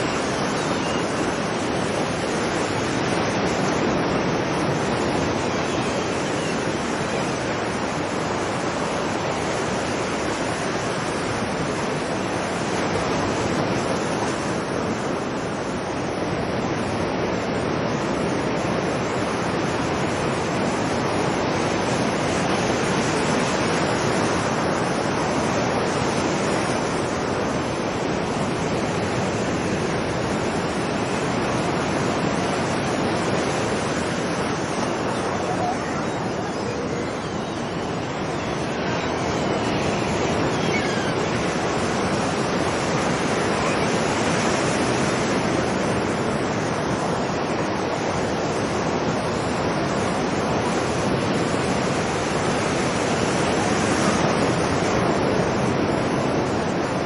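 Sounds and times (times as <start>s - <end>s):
ocean surf washing onto beach: 0.0s - 57.0s.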